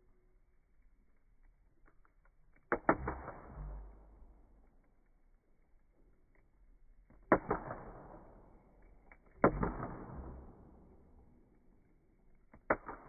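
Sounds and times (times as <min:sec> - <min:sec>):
campfire wood cracking: 0:00.3 - 0:13.0.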